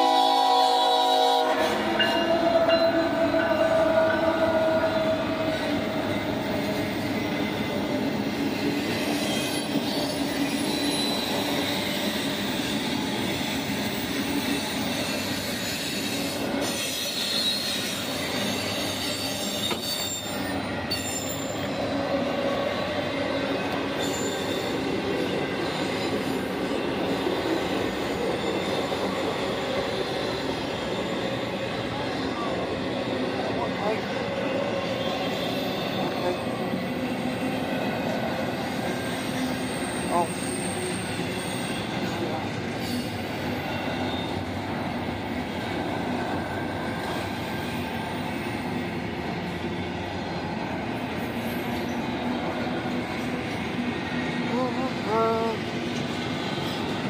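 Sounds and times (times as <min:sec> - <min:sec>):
diesel locomotive passing: 0:00.0 - 0:57.0.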